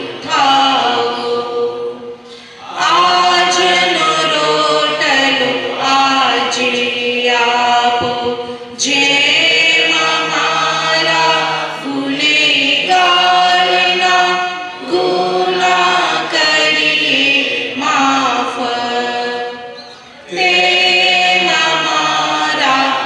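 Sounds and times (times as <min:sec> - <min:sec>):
men singing prayer chant: 0:02.6 - 0:19.5, 0:20.2 - 0:23.0.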